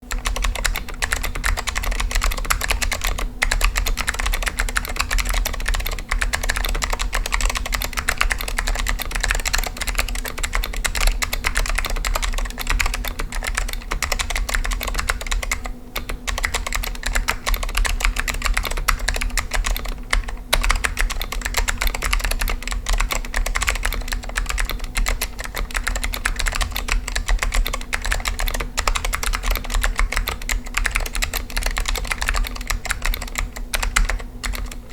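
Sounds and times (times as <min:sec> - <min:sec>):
fast keyboard typing: 0:00.0 - 0:34.9.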